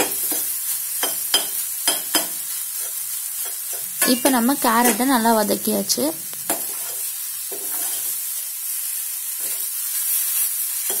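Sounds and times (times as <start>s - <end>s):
spoon scraping a pan: 0.0s - 5.2s, 6.5s - 8.5s, 9.4s - 11.0s
carrot sizzling in a pan: 0.0s - 11.0s.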